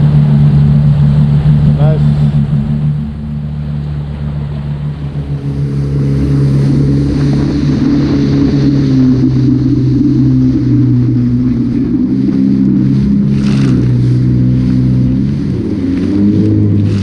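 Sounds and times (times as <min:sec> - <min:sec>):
personal watercraft engine: 0:00.0 - 0:17.0
water and wind noise: 0:00.0 - 0:17.0.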